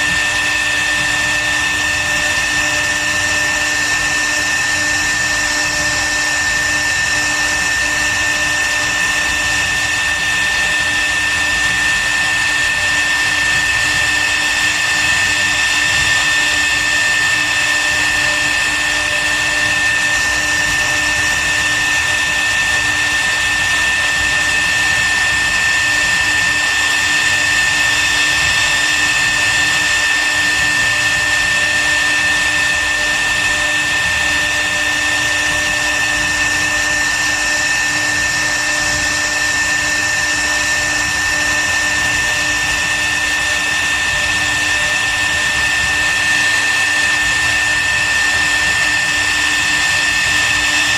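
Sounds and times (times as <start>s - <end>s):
router spindle whine: 0.0s - 50.9s.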